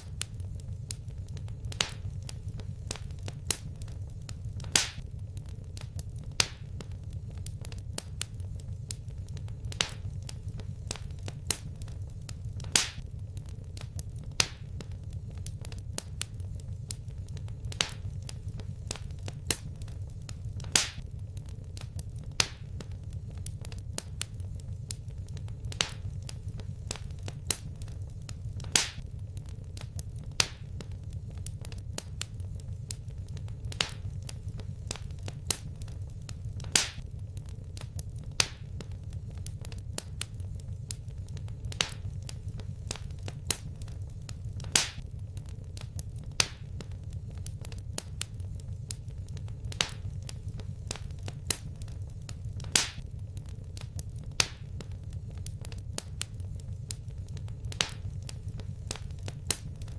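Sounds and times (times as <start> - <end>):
sharp irregular pops: 0.0 - 59.9
wood fire crackling: 0.0 - 59.9.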